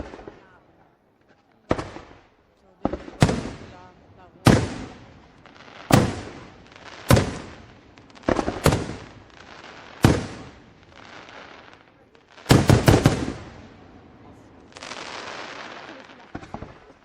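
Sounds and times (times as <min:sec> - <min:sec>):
fireworks bangs with crackling: 0:00.0 - 0:17.0.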